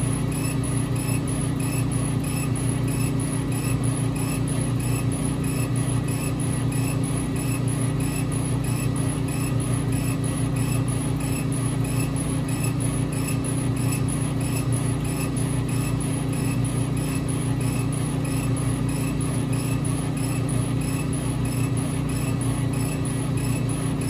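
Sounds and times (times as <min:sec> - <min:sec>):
laser cutter mechanical hum: 0:00.0 - 0:24.0.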